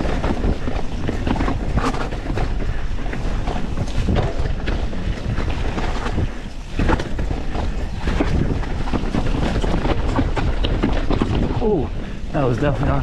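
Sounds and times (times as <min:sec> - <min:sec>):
mountain bike rumbling and rattling: 0:00.0 - 0:13.0
wind buffeting microphone: 0:00.0 - 0:13.0.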